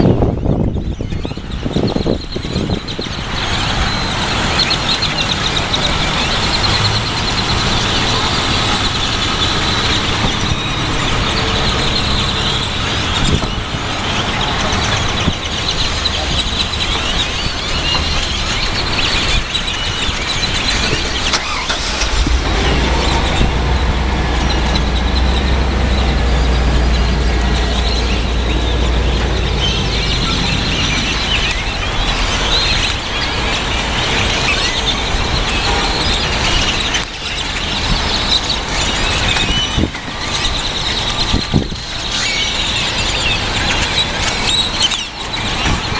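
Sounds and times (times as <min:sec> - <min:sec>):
flock of birds chirping: 0:00.0 - 0:45.9
low traffic rumble: 0:00.0 - 0:45.9.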